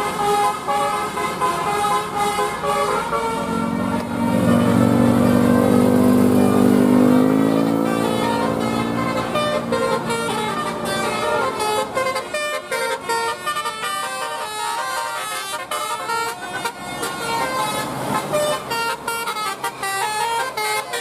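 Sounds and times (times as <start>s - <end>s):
bus musical horn melody: 0.0s - 21.0s.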